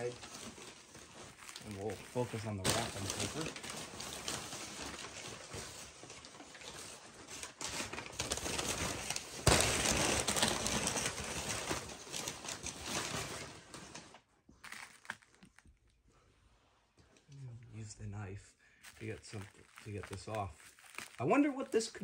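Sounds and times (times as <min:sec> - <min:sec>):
paper crinkling and rustling: 0:00.0 - 0:15.8, 0:18.8 - 0:22.0.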